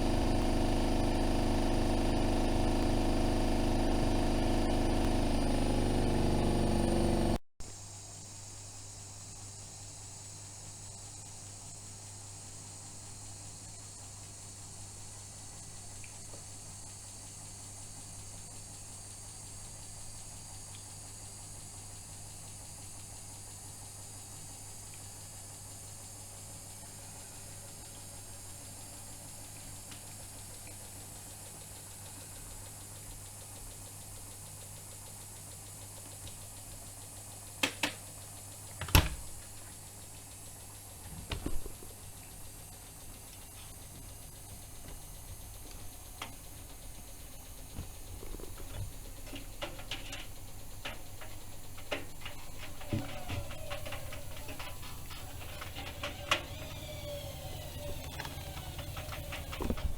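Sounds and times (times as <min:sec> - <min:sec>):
washing machine low hum: 0:00.0 - 0:07.4, 0:13.7 - 0:59.9.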